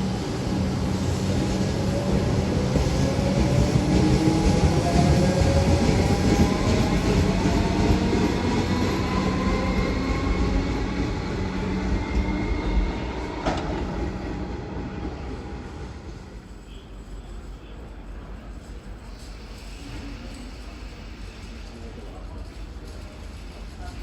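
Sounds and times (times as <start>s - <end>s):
train running past: 0.0s - 24.0s.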